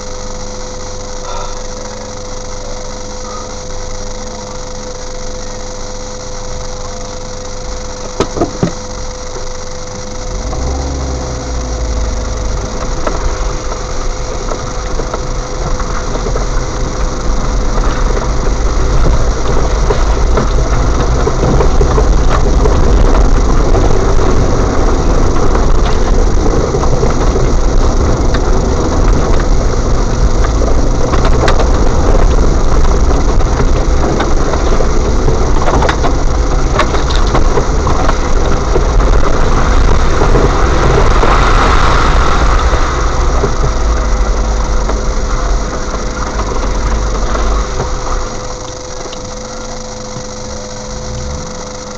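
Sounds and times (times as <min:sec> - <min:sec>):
vehicle engine and body rattles: 0:00.0 - 0:51.9.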